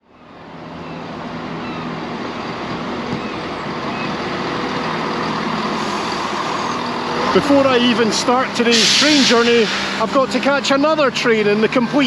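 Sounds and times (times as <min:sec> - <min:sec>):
vehicle engine humming: 0:00.0 - 0:12.0
rushing background noise: 0:00.2 - 0:12.0.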